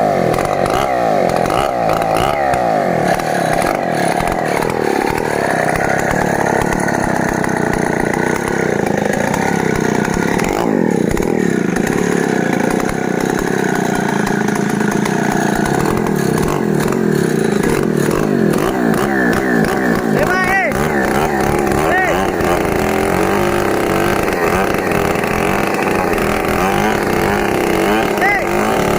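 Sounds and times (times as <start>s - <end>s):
chainsaw running at high revs: 0.0s - 28.9s.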